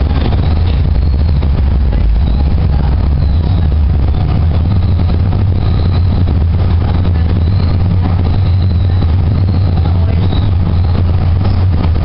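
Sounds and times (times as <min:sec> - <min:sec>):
faint high-pitched whines: 0:00.0 - 0:12.0
train car rumbling: 0:00.0 - 0:12.0.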